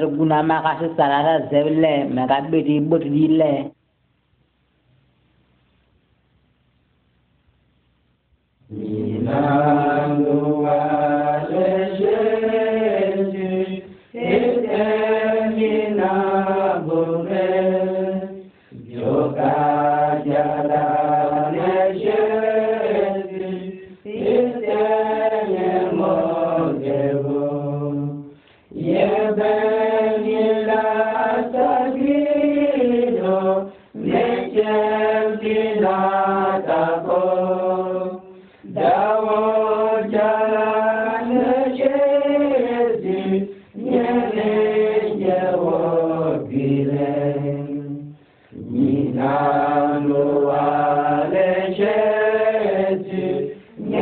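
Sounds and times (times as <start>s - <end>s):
group singing in harmony: 8.6s - 54.0s.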